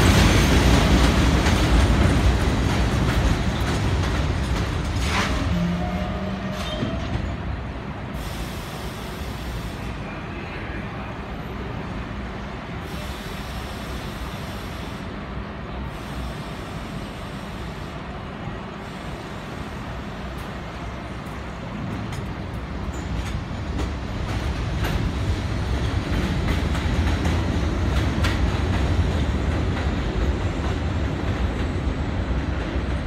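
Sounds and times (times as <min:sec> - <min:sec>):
subway train running noise: 0:00.0 - 0:33.0.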